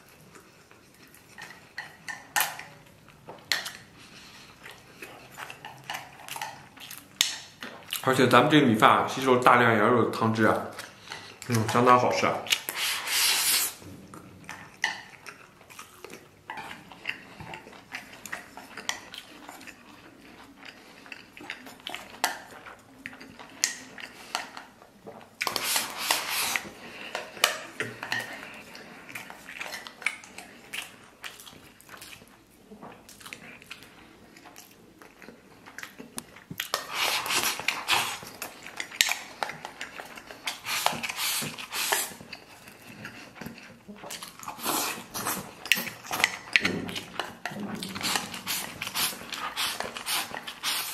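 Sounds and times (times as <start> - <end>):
chewing and slurping: 0.0 - 8.2, 10.6 - 50.9.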